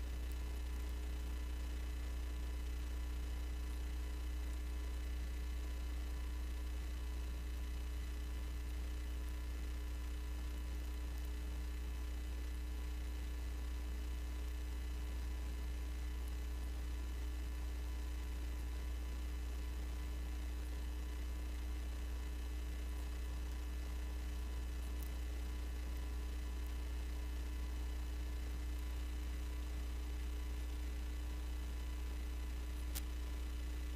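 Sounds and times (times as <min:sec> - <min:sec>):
low electrical hum: 0:00.0 - 0:33.9.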